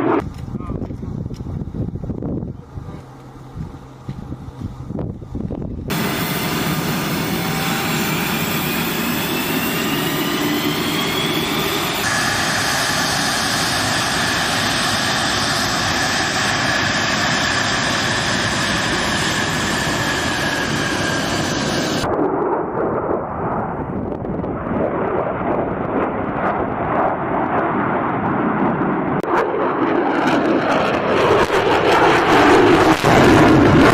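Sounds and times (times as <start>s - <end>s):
crackling jet rumble: 0.0s - 33.9s
jet engine whine: 0.0s - 33.9s.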